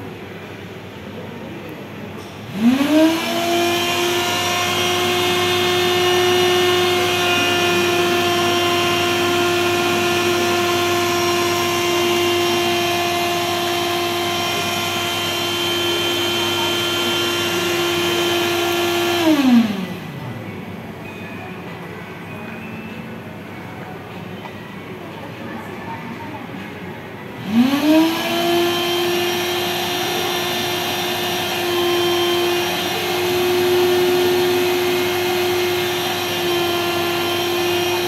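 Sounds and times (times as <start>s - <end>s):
cotton candy machine humming: 0.0s - 25.1s, 27.0s - 38.0s.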